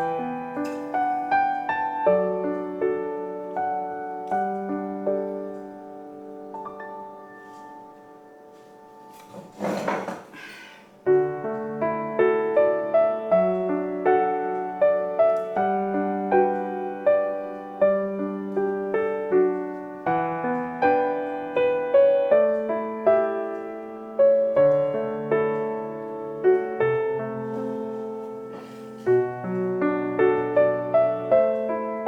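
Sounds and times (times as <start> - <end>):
soft piano music: 0.0 - 9.9, 11.0 - 32.0.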